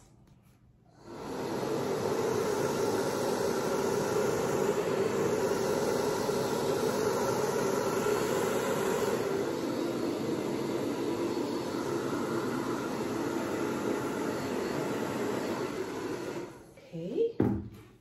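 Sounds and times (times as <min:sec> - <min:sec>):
hair dryer blowing: 0:00.9 - 0:17.3.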